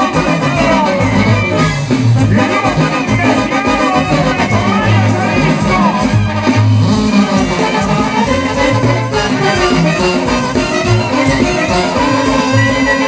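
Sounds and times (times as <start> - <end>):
drums beating: 0.0 - 13.0
trumpets: 0.0 - 13.0
tuba bass line: 0.0 - 13.0.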